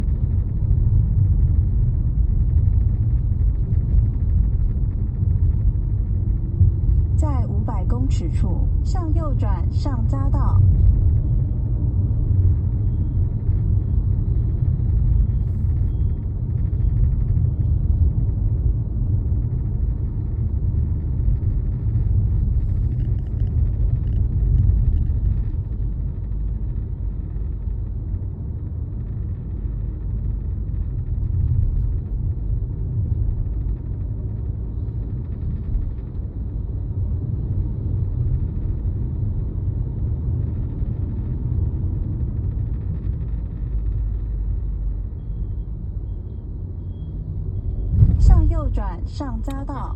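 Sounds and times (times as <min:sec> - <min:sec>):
road and engine rumble in car cabin: 0:00.0 - 0:49.9.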